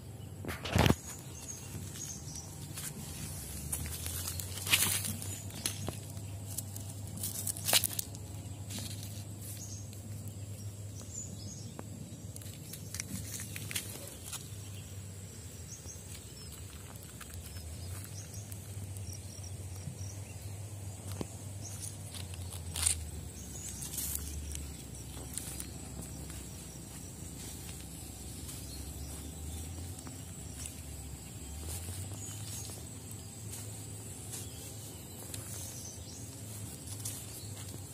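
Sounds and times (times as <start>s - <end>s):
footsteps on gravel: 0.5s - 14.9s, 15.8s - 37.9s
steady low rumble: 1.2s - 37.9s.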